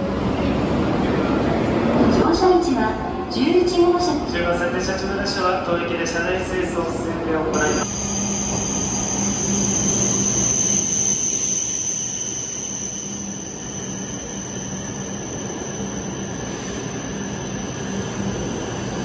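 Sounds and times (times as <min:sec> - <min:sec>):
bullet train passing slowly: 0:00.0 - 0:19.0.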